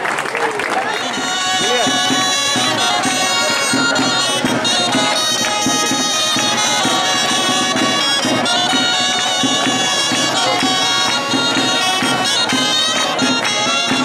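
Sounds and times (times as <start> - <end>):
reed wind instruments playing: 0.7 - 14.0.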